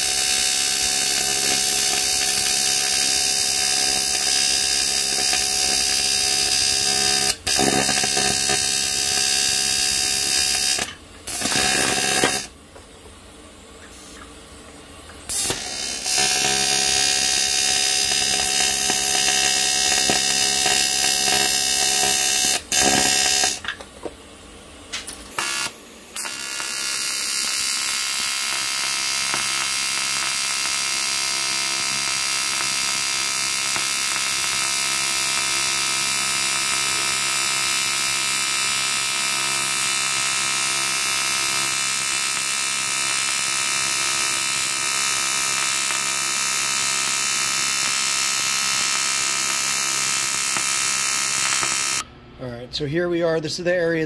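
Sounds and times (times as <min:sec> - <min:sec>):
welding arc buzzing: 0:00.0 - 0:12.6, 0:15.2 - 0:23.8, 0:24.9 - 0:52.1.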